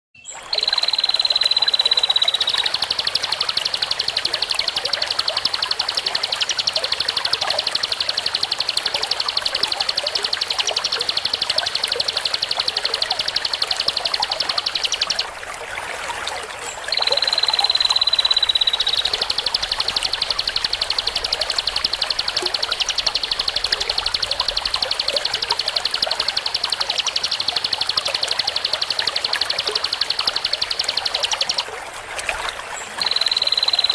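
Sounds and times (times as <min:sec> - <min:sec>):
bird trilling call: 0:00.2 - 0:15.4, 0:16.6 - 0:31.7, 0:32.3 - 0:33.9.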